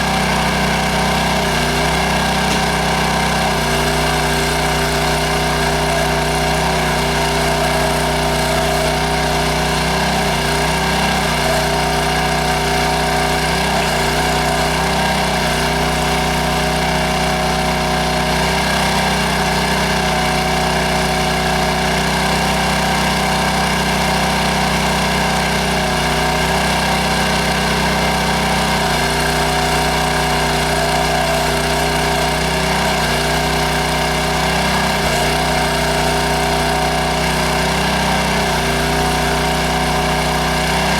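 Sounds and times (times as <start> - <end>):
small gas engine running: 0.0 - 40.9.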